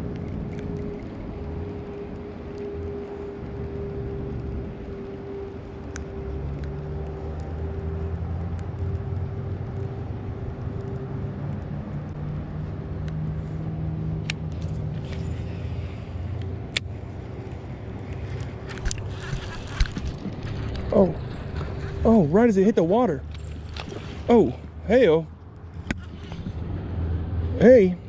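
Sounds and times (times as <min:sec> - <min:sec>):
low motor rumble: 0:00.0 - 0:28.0.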